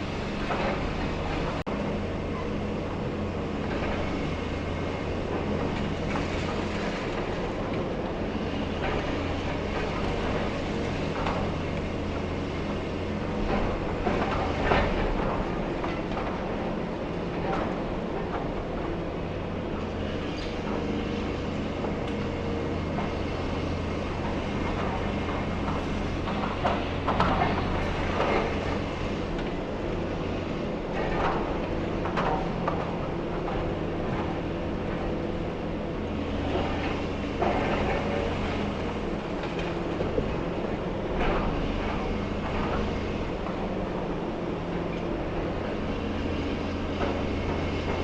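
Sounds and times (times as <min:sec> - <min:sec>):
excavator engine running: 0:00.0 - 0:48.0.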